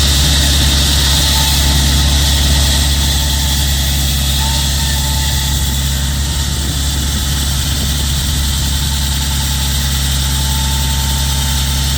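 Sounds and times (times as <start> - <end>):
concrete saw running: 0.0 - 11.9.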